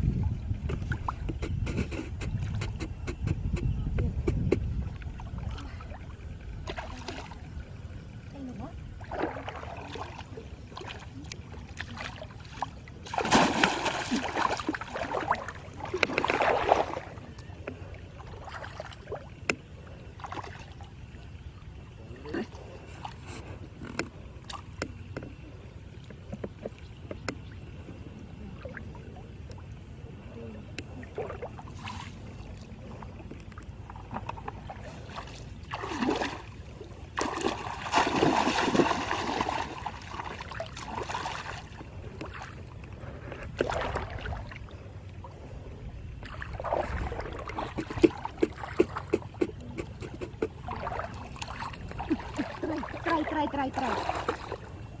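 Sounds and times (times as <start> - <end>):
water splashing and sloshing: 0.0 - 55.0.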